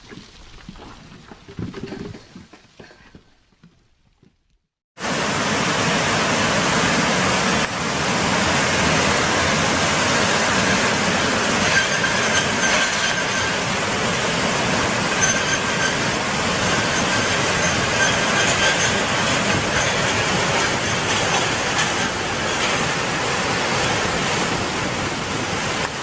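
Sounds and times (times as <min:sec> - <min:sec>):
floodwater rushing: 0:05.0 - 0:26.0.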